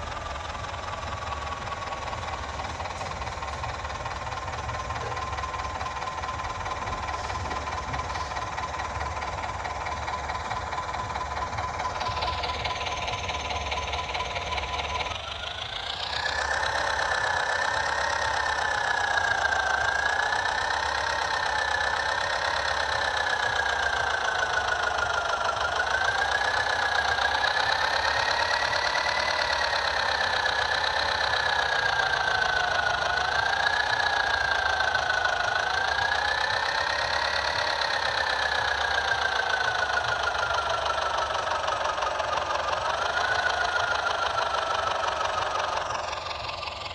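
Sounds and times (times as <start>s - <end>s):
toy tractor motor whining: 0.0s - 46.9s.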